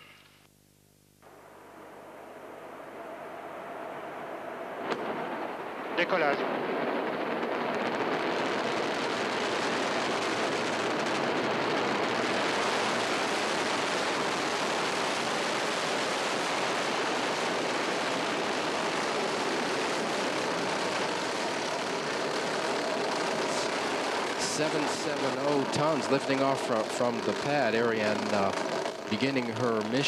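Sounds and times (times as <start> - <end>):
rocket engines roaring: 1.3 - 30.0.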